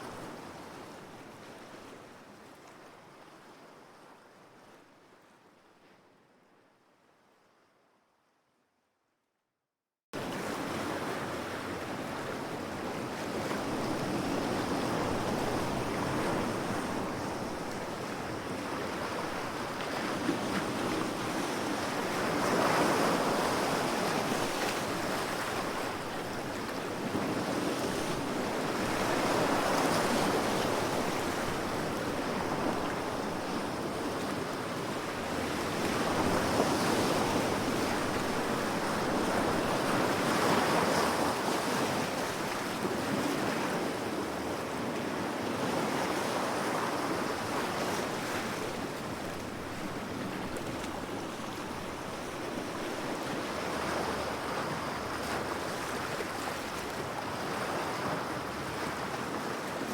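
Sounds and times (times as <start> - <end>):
ocean waves breaking on shore: 10.2 - 59.9.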